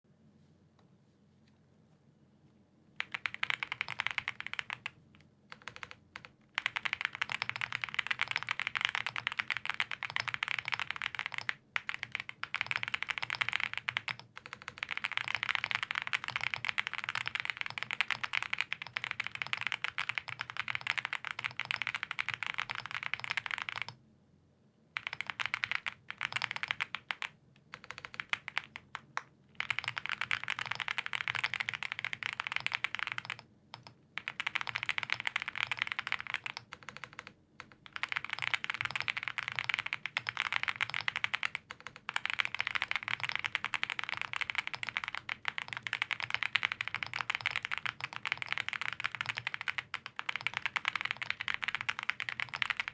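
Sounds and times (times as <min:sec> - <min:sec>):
fast typing on mechanical keyboard: 0:03.0 - 0:24.0, 0:25.0 - 0:52.9.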